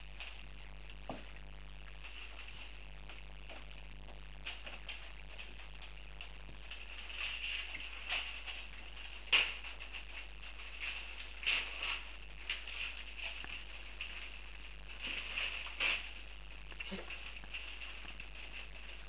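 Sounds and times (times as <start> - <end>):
puppies smacking and lapping food: 1.3 - 19.0.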